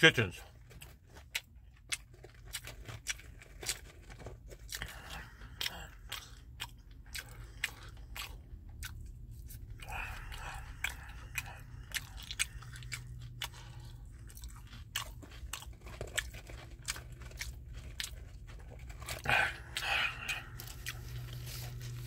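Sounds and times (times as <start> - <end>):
person chewing crunchy food: 0.1 - 22.0.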